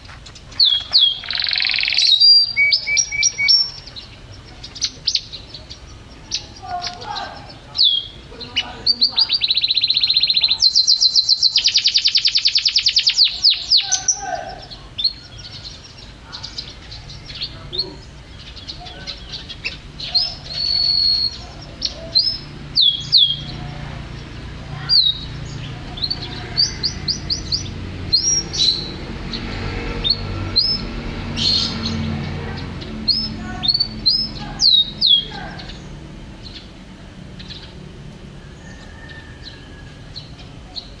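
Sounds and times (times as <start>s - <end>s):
canary chirping: 0.2s - 37.9s.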